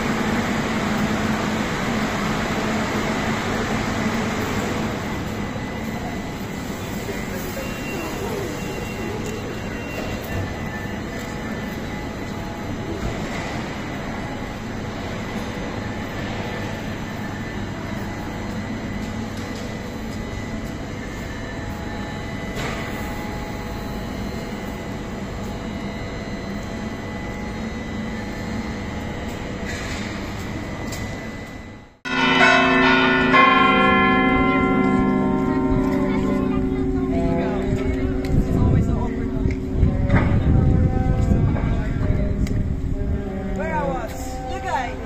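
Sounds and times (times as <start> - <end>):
railway station platform noise: 0.0 - 45.0
cathedral bells ringing: 3.9 - 30.1, 32.0 - 45.0.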